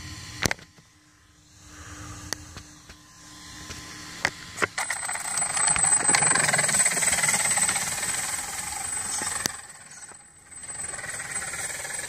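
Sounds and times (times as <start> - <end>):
rc truck motor whine: 0.0 - 12.0.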